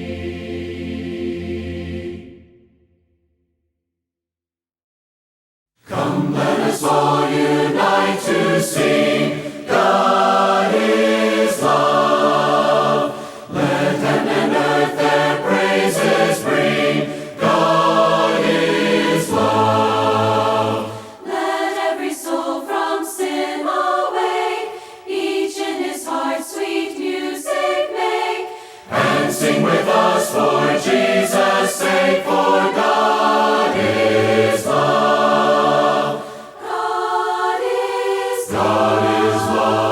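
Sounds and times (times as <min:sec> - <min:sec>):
choir singing a hymn: 0:00.0 - 0:02.9, 0:05.9 - 0:39.9.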